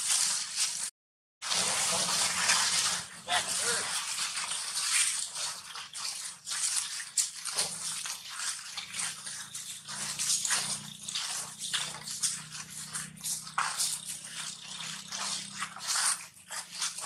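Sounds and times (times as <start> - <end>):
dry leaves rustling and crunching: 1.5 - 17.0.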